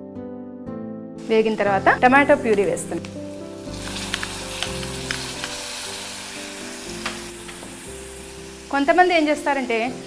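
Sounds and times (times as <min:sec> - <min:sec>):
tomato puree sizzling in oil: 0:01.2 - 0:10.0.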